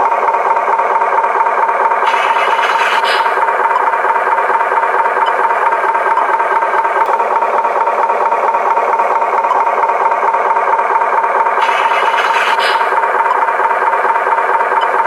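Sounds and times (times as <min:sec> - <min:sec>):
toy truck motor buzzing whine: 0:00.0 - 0:15.0.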